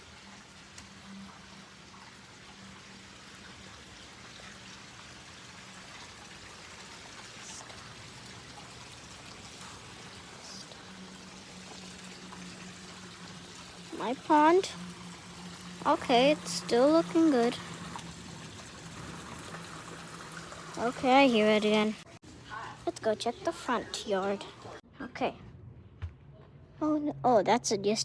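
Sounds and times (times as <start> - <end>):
water falling and trickling: 0.0 - 24.8.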